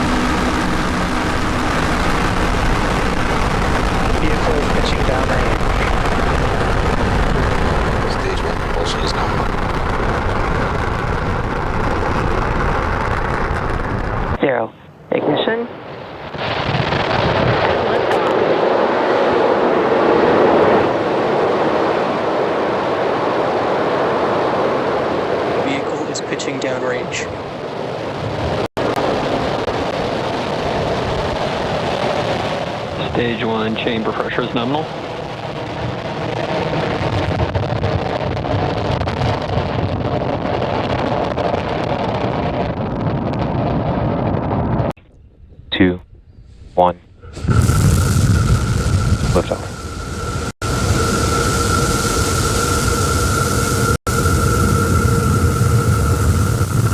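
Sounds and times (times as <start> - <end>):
rocket engines roaring: 0.0 - 56.9.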